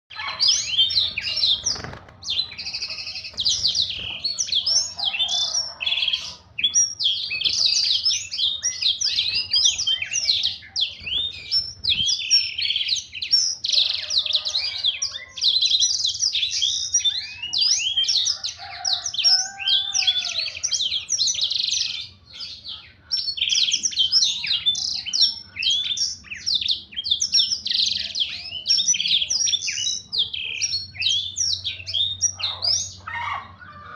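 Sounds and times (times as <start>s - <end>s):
canary singing warbling song: 0.1s - 33.9s.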